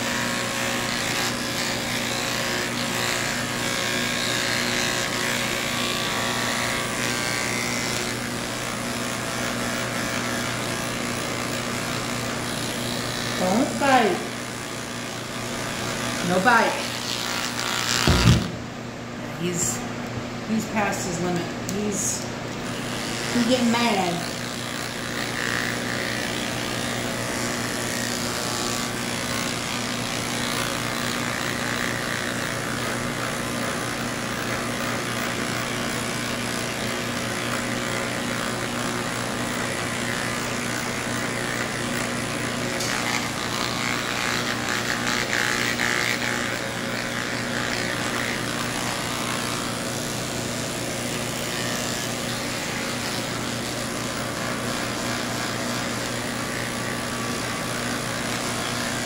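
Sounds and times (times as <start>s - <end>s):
electric clippers shaving fur: 0.0s - 18.6s, 20.6s - 59.0s.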